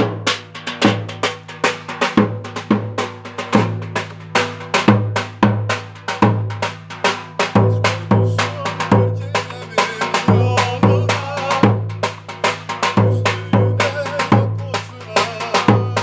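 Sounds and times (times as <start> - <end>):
bass drum folk rhythm: 0.0 - 16.0.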